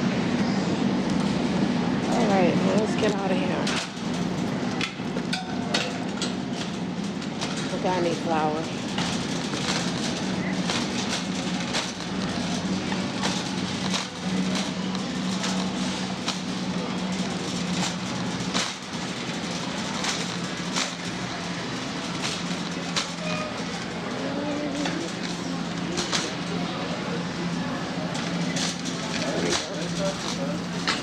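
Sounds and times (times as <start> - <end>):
steady low hum: 0.0 - 31.0
shopping cart rolling and rattling: 1.2 - 31.0.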